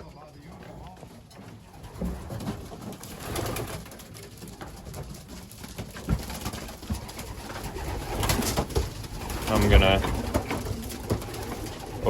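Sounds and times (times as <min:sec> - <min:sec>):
pigeons cooing: 0:01.5 - 0:12.0.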